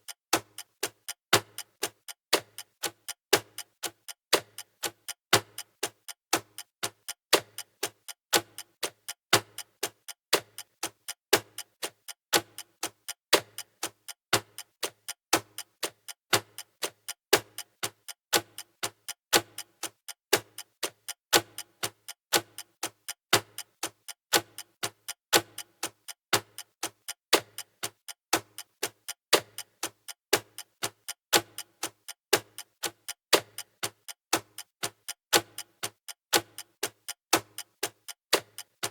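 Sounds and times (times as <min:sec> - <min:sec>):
mechanical clock ticking: 0:00.0 - 0:38.9.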